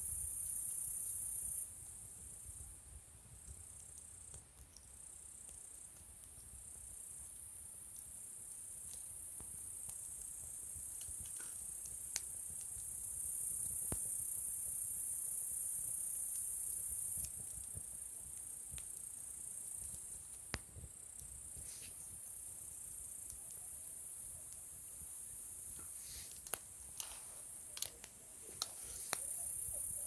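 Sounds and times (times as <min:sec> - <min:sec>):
insects chorus: 0:00.0 - 0:06.0, 0:06.6 - 0:30.0
burning wood popping: 0:01.8 - 0:15.1, 0:16.0 - 0:30.0.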